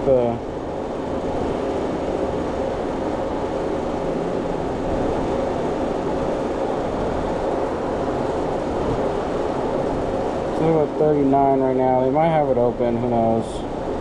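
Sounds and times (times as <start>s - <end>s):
refrigeration unit humming: 0.0s - 14.0s.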